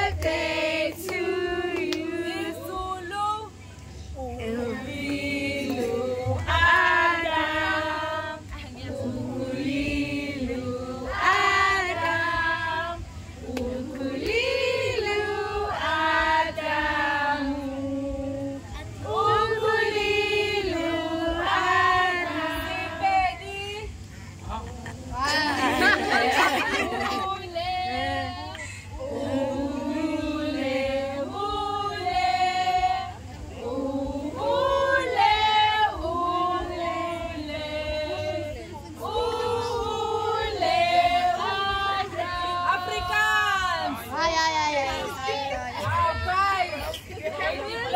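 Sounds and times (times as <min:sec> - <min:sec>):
women singing without instruments: 0:00.0 - 0:47.9.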